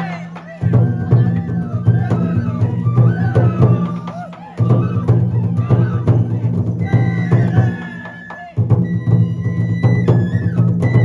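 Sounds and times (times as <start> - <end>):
drum strokes: 0.0 - 11.0.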